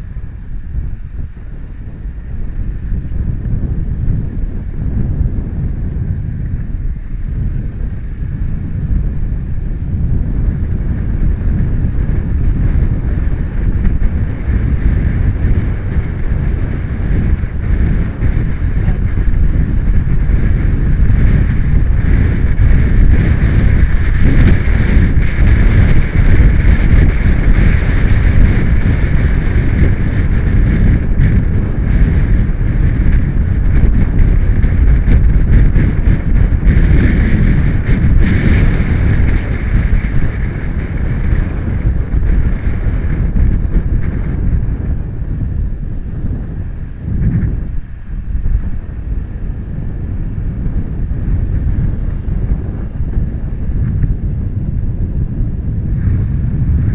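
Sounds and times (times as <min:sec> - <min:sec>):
motorcycle and road noise: 0:00.0 - 0:56.9
wind buffeting microphone: 0:00.0 - 0:56.9.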